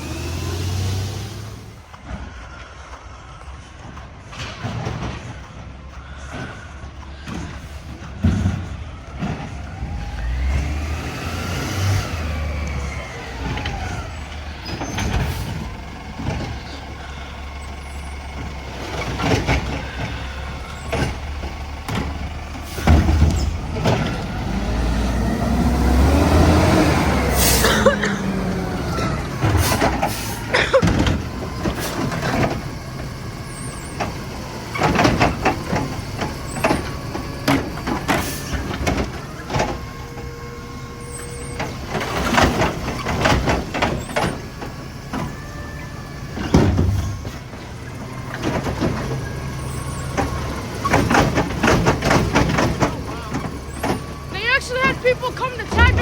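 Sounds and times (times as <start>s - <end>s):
garbage truck engine revving: 0.0s - 2.1s, 4.3s - 56.0s
clanks and bangs of carts: 0.0s - 56.0s
hydraulics running: 0.0s - 56.0s.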